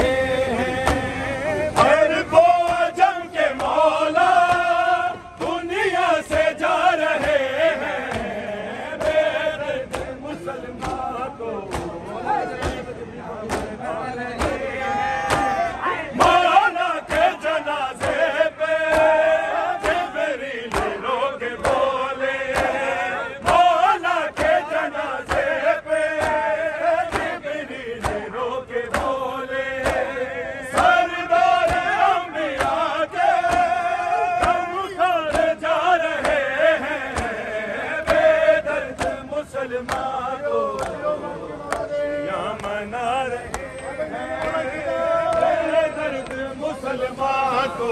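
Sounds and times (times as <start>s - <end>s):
lead voice chanting: 0.0s - 47.9s
men chanting in unison: 0.0s - 47.9s
rhythmic chest-beating slaps: 0.0s - 47.9s.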